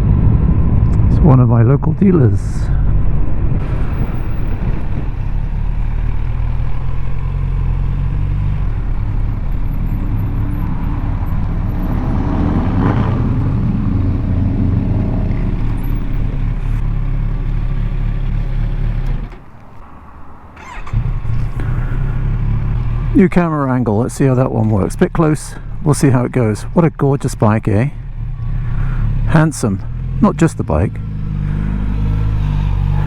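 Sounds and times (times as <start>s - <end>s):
road noise: 0.0s - 33.0s
motorcycle engine running: 3.6s - 19.4s, 20.6s - 33.0s.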